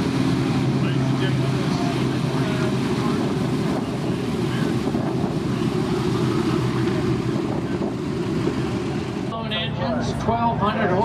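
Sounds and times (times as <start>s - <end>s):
wind buffeting microphone: 0.0s - 9.3s
propeller engines droning: 0.0s - 11.0s.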